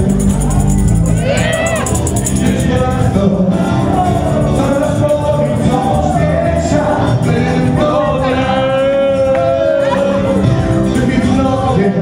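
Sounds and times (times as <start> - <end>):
dance music with singing: 0.0 - 12.0.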